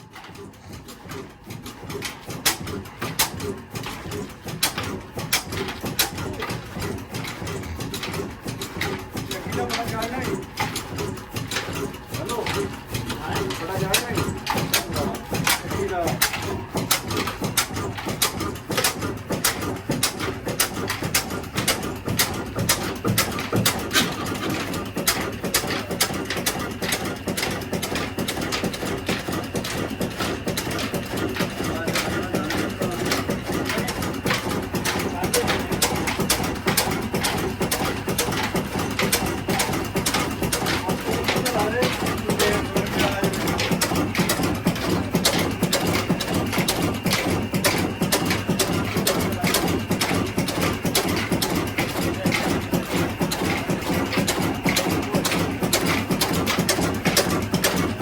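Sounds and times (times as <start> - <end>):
diesel engine knocking slowly: 0.0 - 58.0.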